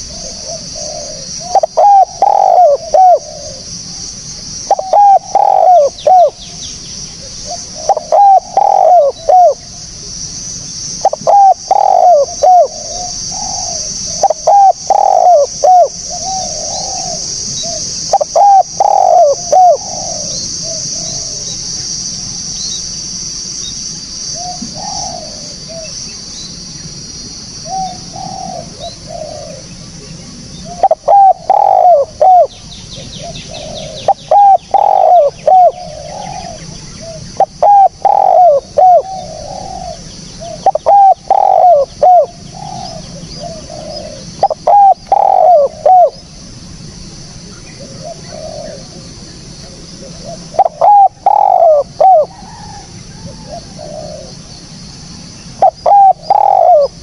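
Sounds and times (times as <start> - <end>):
dove cooing: 0.0 - 21.8, 24.3 - 26.1, 27.6 - 46.4, 47.4 - 54.6, 55.5 - 57.0
steady high hiss: 0.0 - 57.0.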